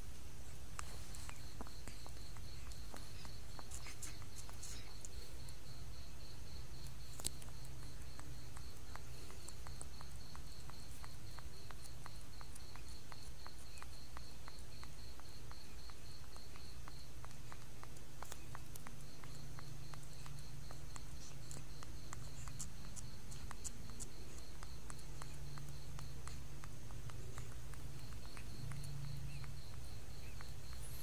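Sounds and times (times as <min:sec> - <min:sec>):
cricket chirping: 0:00.0 - 0:31.0
low steady hum: 0:00.0 - 0:31.0
monkey sucking with soft clicks: 0:00.6 - 0:31.0.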